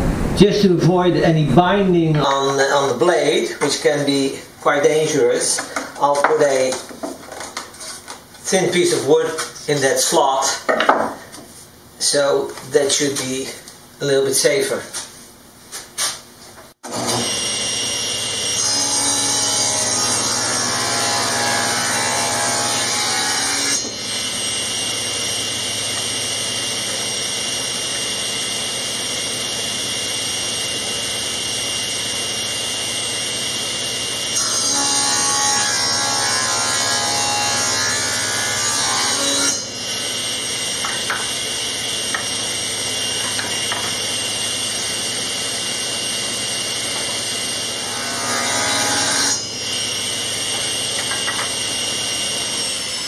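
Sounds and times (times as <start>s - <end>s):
table saw running: 1.6s - 11.1s, 16.8s - 53.0s
saw blade cutting wood: 2.2s - 11.5s, 16.8s - 53.0s.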